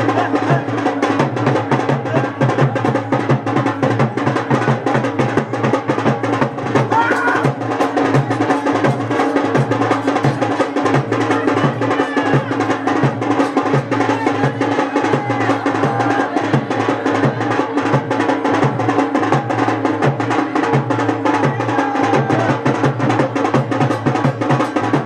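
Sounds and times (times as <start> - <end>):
fast steady drumming: 0.0 - 25.0.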